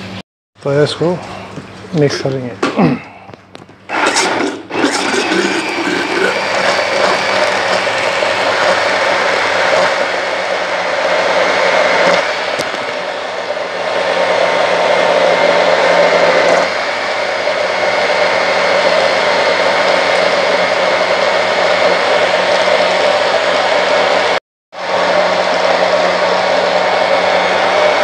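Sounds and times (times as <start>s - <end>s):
blender motor running: 3.9s - 28.0s.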